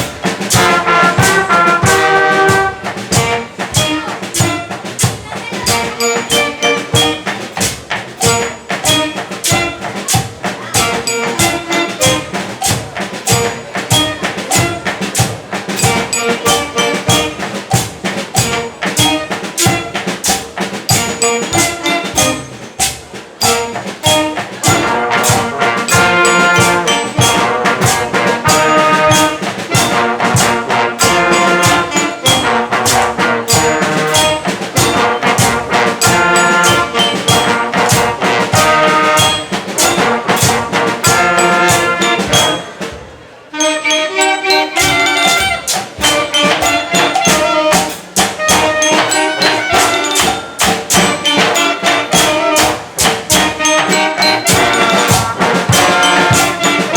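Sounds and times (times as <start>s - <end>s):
school band brass and drums: 0.0s - 56.9s.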